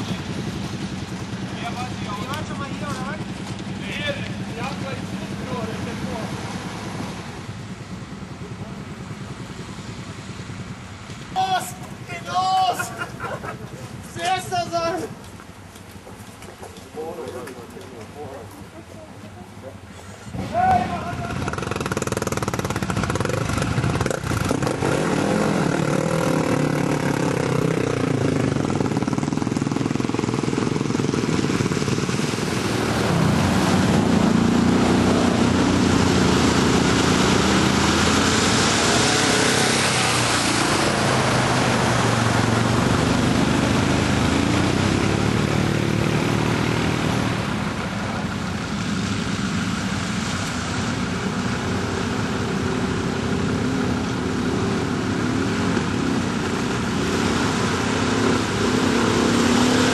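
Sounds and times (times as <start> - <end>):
quad bike engines revving: 0.0 - 59.9.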